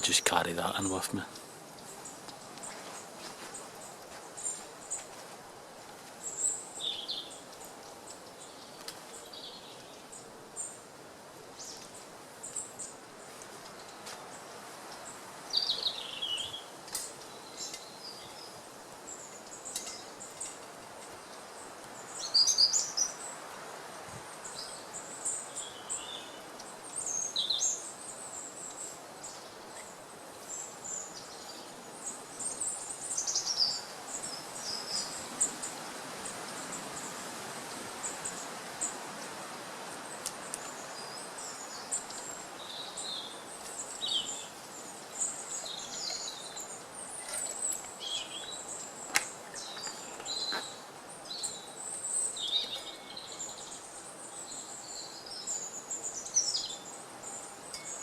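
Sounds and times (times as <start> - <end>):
steady outdoor hiss: 0.0 - 58.0
small birds singing and chirping: 6.2 - 10.8, 15.0 - 39.3, 40.1 - 58.0.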